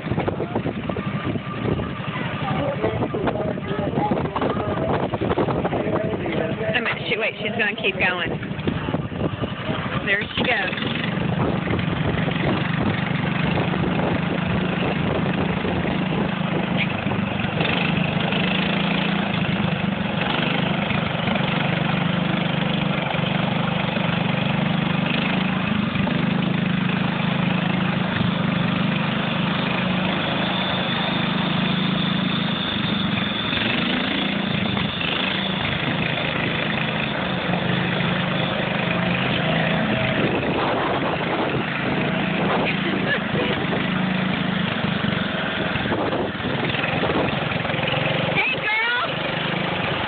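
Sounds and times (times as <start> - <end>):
small tractor engine droning: 0.0 - 50.0.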